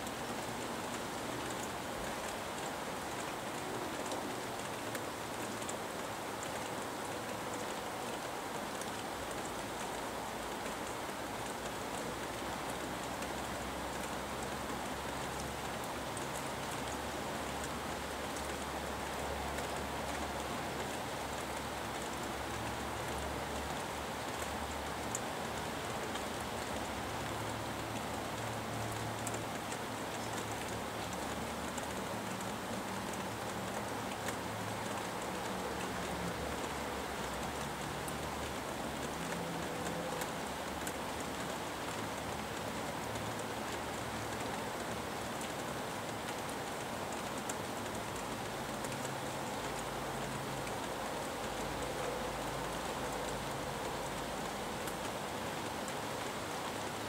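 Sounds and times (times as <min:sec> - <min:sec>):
sharp drip ticks: 0:00.0 - 0:57.0
steady rain hiss: 0:00.0 - 0:57.0.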